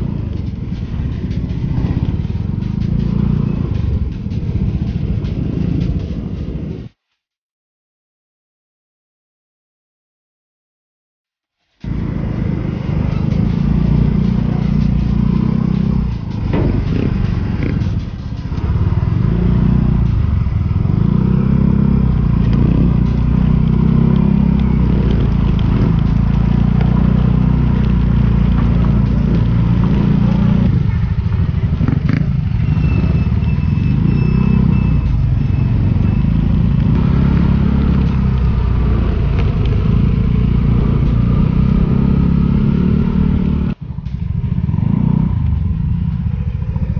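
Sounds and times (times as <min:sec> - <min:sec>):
other motorcycles riding: 0:00.0 - 0:07.0, 0:11.8 - 0:46.9
scooter engine and road rumble: 0:00.0 - 0:07.0, 0:11.8 - 0:46.9.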